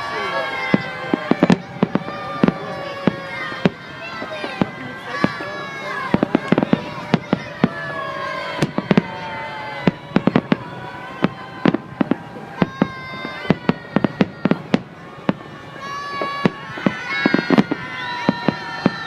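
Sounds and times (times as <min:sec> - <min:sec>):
firework bangs and cracks: 0:00.0 - 0:19.0.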